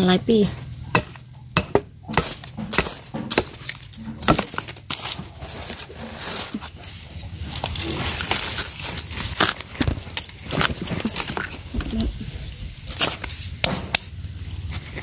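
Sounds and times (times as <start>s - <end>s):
bamboo crunching and crackling: 0.0s - 15.0s
dry leaves rustling: 0.0s - 15.0s.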